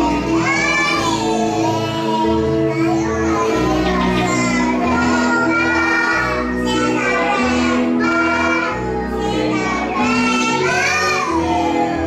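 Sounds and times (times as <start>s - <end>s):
children singing: 0.0s - 12.0s
instrumental backing track: 0.0s - 12.0s.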